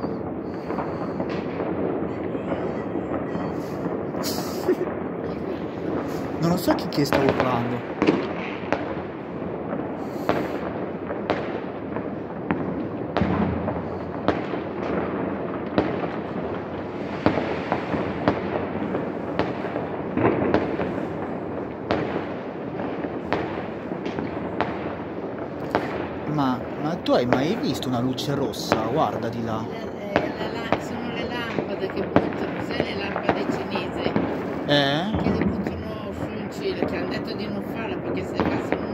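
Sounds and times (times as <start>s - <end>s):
distant fireworks bangs and crackle: 0.0s - 38.9s
sharp firework reports: 0.0s - 38.9s.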